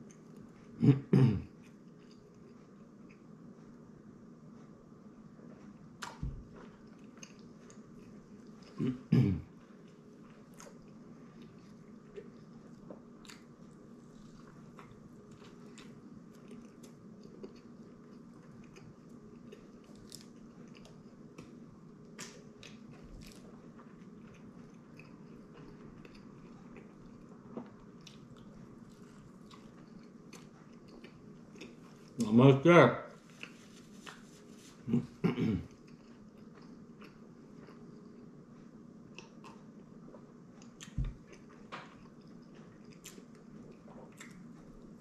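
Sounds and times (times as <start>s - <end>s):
person chewing food: 1.5s - 3.8s, 5.3s - 32.2s, 33.2s - 45.0s.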